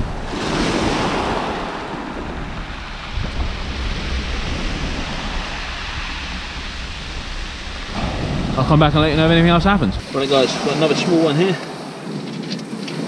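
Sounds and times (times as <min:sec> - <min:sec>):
waves breaking on shingle beach: 0:00.0 - 0:13.0
wind rumble on microphone: 0:00.0 - 0:13.0.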